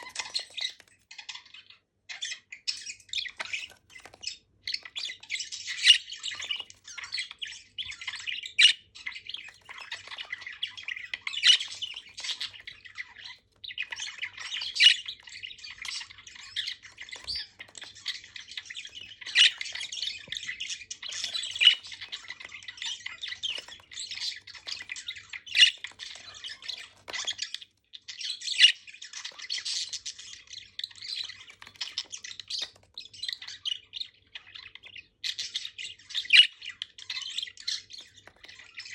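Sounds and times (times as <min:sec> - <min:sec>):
budgies chattering and warbling: 0:00.0 - 0:38.9.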